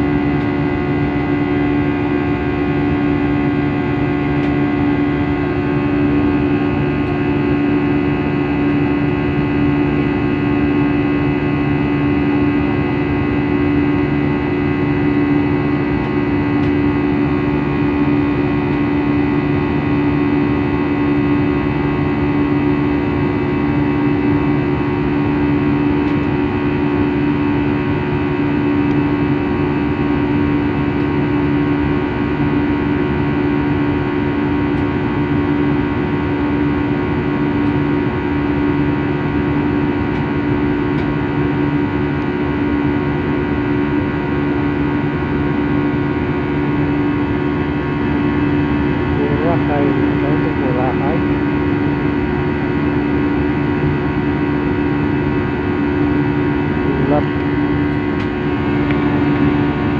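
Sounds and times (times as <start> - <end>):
aircraft cabin engine drone: 0.0 - 59.9.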